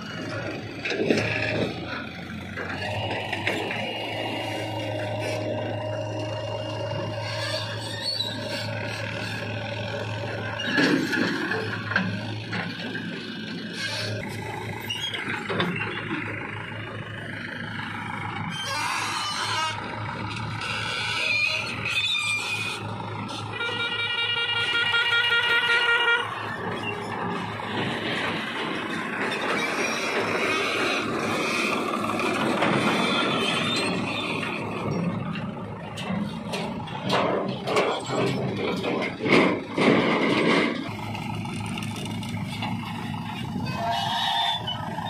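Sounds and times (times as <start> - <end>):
diesel engines running under load: 0.0 - 45.0.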